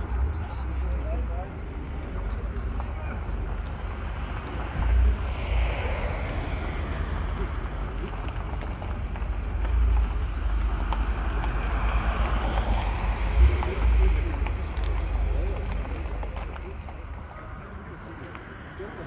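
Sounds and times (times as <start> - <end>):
steady background rush: 0.0 - 19.0.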